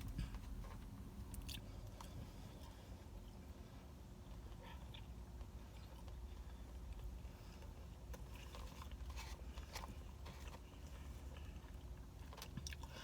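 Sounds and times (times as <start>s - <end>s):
person chewing food: 0.0s - 3.3s, 4.2s - 13.0s.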